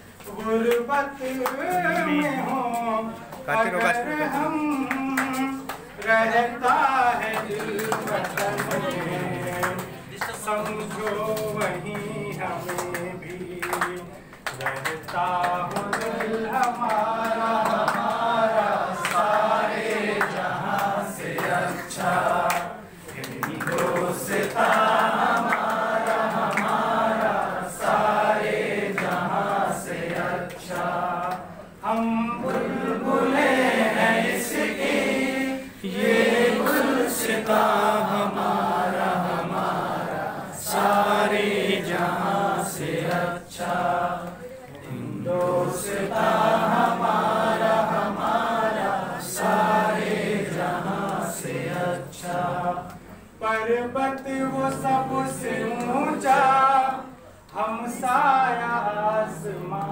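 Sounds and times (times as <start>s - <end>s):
crowd singing in chorus: 0.0s - 59.9s.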